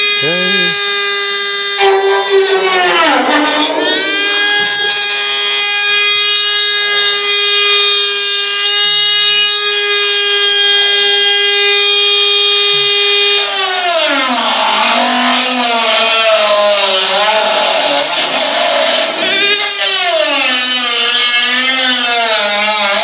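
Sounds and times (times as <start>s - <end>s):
electric power tool whining: 0.0s - 23.0s.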